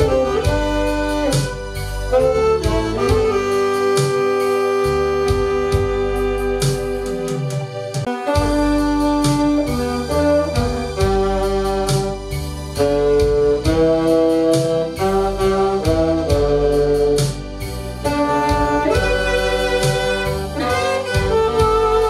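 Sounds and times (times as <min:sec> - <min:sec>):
backing track with bass and beat: 0:00.0 - 0:22.0
saxophones playing hymn melody: 0:00.0 - 0:22.0.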